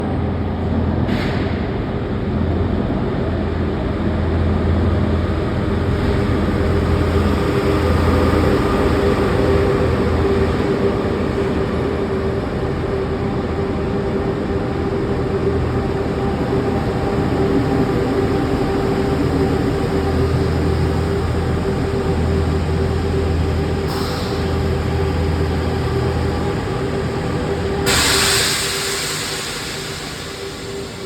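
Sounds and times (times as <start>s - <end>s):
electric train rumbling on rails: 0.0s - 31.0s.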